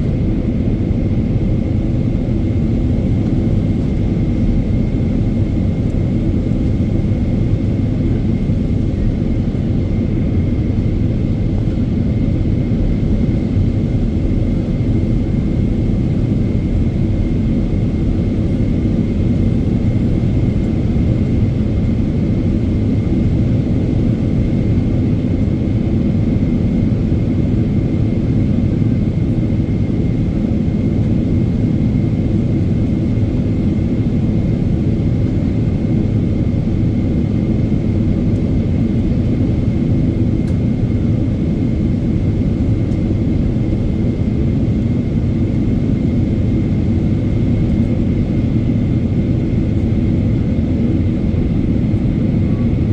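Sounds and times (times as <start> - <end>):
airplane cabin roar: 0.0 - 52.9.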